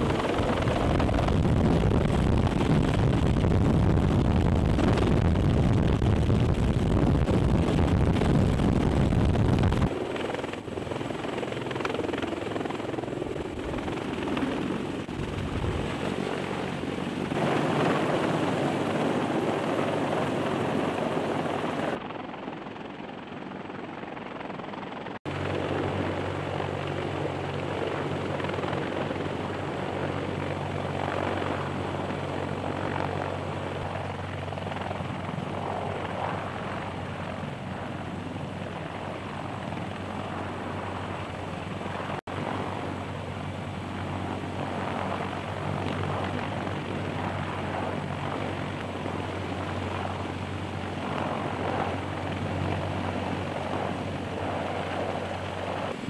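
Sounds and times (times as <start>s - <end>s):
helicopter rotor rushing: 0.0s - 56.0s.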